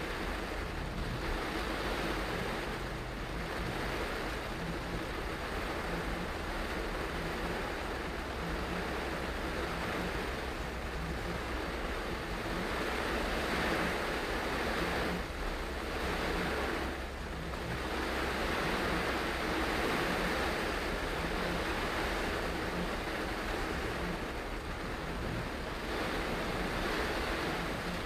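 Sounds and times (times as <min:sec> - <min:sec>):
heavy rain on car roof: 0:00.0 - 0:28.0
tyres on flooded road: 0:00.0 - 0:28.0.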